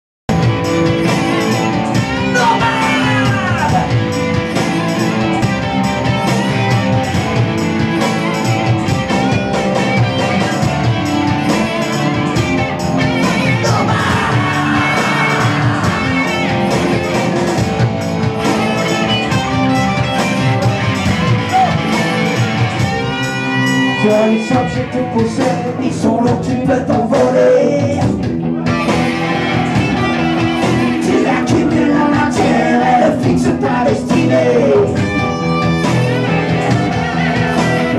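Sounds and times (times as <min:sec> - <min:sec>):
live rock band playing: 0:00.3 - 0:37.9
sliding lead guitar lines: 0:00.3 - 0:37.9.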